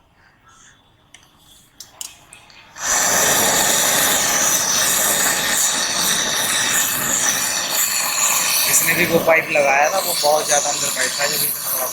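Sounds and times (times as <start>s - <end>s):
pressurised gas hissing: 0.6s - 11.9s.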